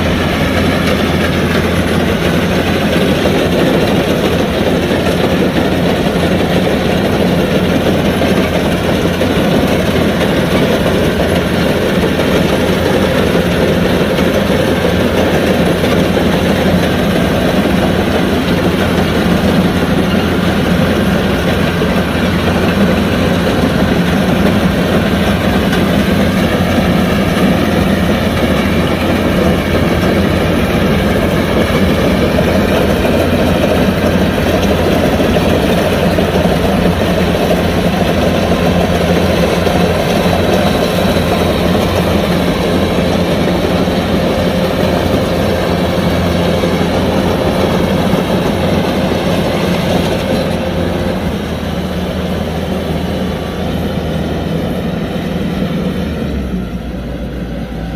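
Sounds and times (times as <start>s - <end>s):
combine harvester droning: 0.0s - 57.9s.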